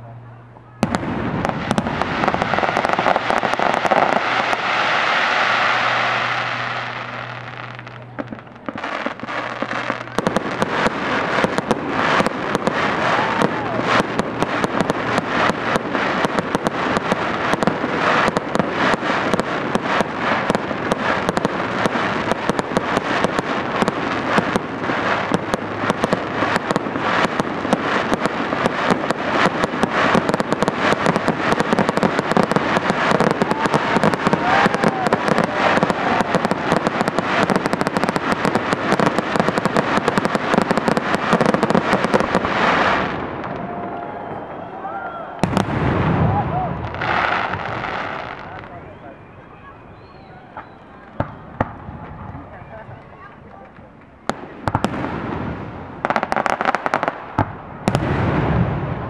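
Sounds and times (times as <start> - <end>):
fireworks pops and crackles: 0.8 - 44.7, 45.3 - 49.0, 50.0 - 59.0.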